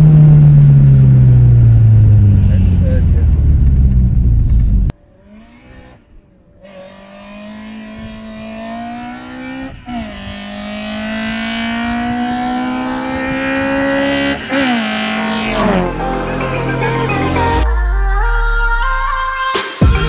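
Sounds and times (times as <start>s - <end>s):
car engine accelerating hard: 0.0s - 17.6s.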